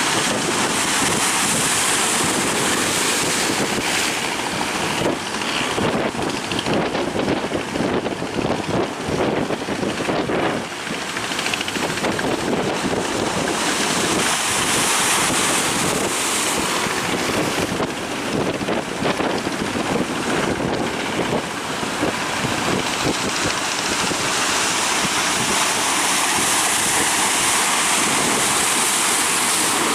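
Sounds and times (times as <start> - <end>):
waves breaking: 0.0 - 29.9
wind buffeting microphone: 0.0 - 29.9.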